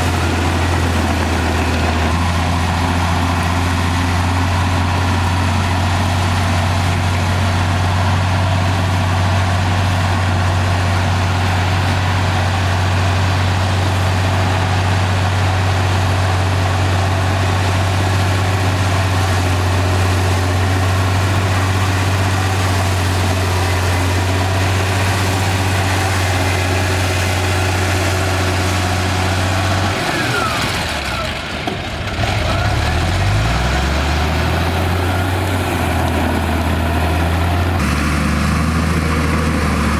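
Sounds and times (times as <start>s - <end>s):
bulldozer diesel engine humming: 0.0s - 39.9s.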